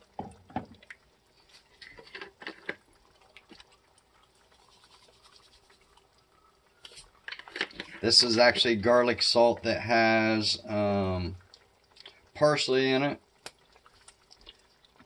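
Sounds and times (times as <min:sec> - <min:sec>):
eggs frying in oil: 0:00.0 - 0:15.0.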